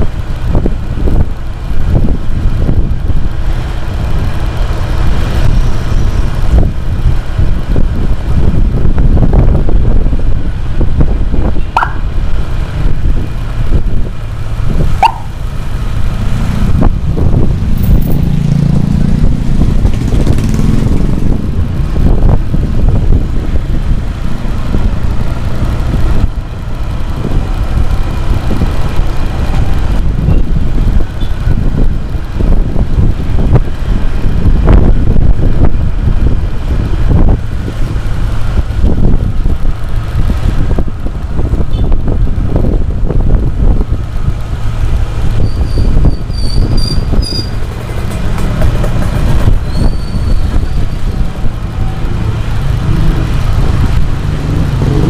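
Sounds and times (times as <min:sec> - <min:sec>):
motorcycle engine drone: 0:00.0 - 0:55.0
road and wind noise: 0:00.0 - 0:55.0.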